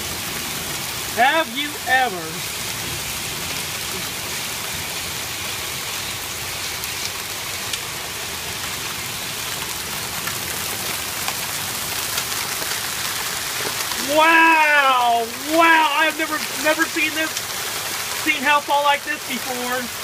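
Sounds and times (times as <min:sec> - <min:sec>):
hailstones striking: 0:00.0 - 0:20.0
heavy rain pouring: 0:00.0 - 0:20.0.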